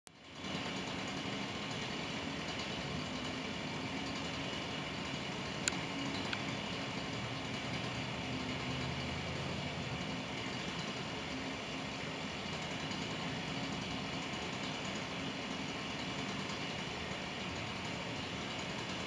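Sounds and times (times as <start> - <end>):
low machine hum with hiss: 0.2 - 19.0.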